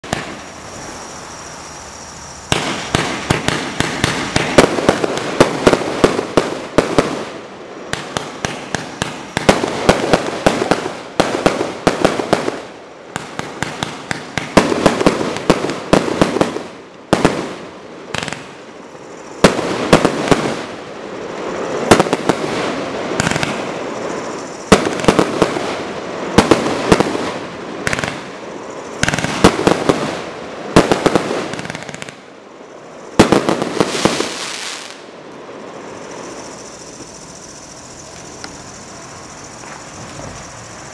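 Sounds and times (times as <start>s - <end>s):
firework volleys cracking: 2.2s - 40.9s.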